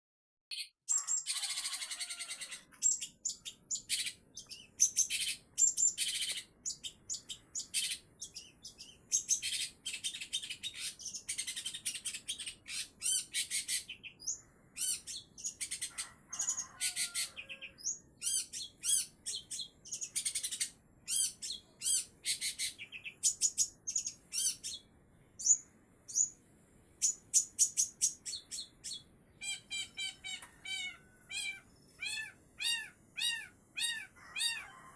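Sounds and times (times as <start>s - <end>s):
songbird singing: 0.5s - 34.9s.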